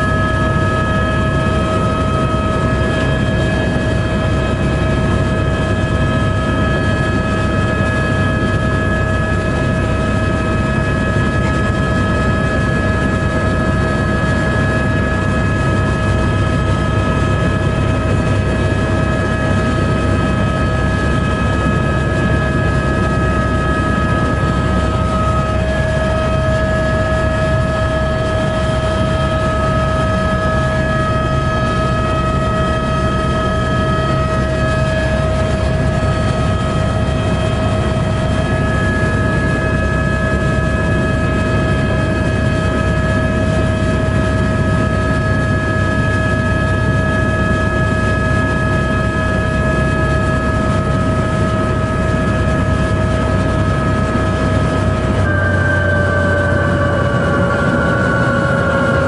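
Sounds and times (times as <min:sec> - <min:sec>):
helicopter engine and rotor drone: 0:00.0 - 0:59.0
high turbine whine: 0:00.0 - 0:59.0.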